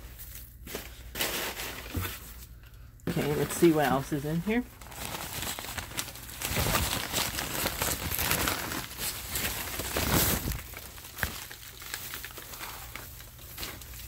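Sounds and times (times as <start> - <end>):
newspaper rustling and crumpling: 0.0 - 14.0.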